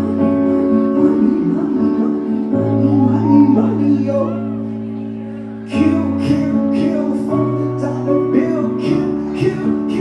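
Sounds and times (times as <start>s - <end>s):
bass line: 0.0s - 10.0s
held keyboard chord: 0.0s - 10.0s.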